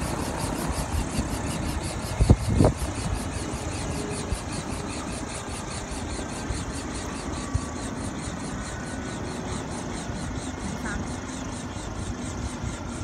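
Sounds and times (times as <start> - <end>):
fast rotor beat: 0.0 - 13.0
helicopter engine drone: 0.0 - 13.0.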